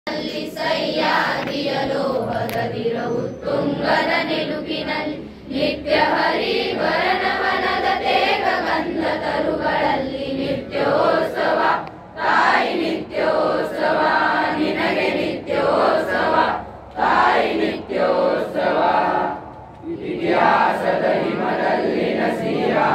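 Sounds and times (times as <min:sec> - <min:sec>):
children singing in chorus: 0:00.1 - 0:22.9.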